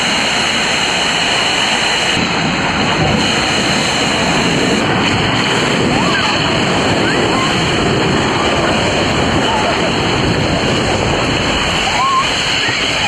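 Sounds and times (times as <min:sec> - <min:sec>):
water and air rushing on slide: 0:00.0 - 0:13.0.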